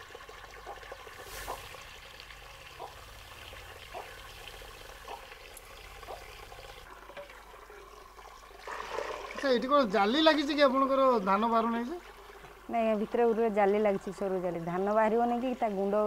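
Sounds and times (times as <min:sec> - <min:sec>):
water trickling into metal basin: 0:00.0 - 0:16.0.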